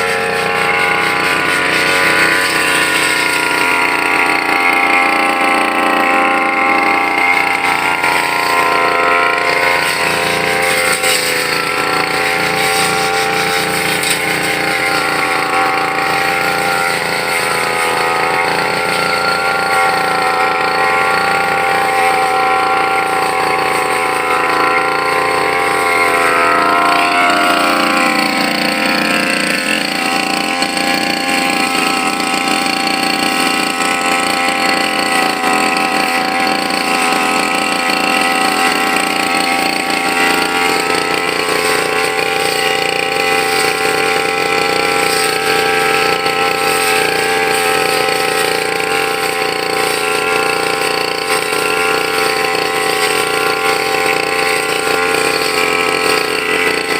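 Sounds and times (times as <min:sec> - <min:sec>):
brush cutter engine running: 0:00.0 - 0:56.9.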